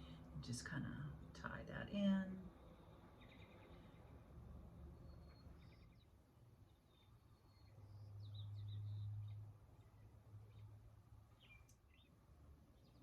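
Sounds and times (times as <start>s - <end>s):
faint bird chirps and trills: 2.6s - 13.0s.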